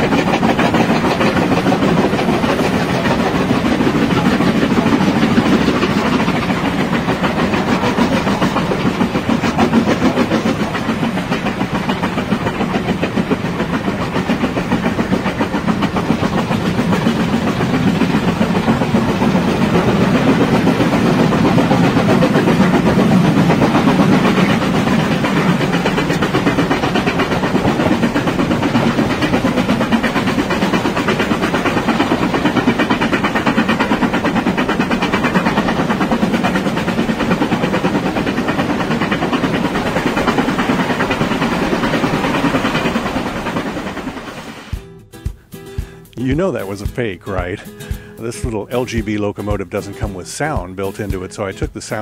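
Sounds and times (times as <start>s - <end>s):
steam locomotive exhaust: 0.0s - 52.0s.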